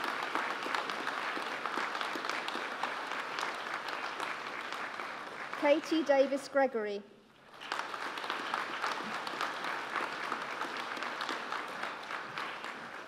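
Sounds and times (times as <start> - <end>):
audience applauding: 0.0 - 6.5, 7.4 - 13.0.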